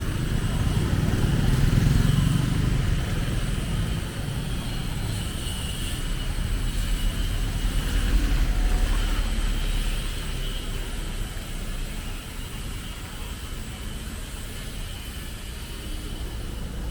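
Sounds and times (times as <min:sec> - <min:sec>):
city street noise: 0:00.0 - 0:16.9.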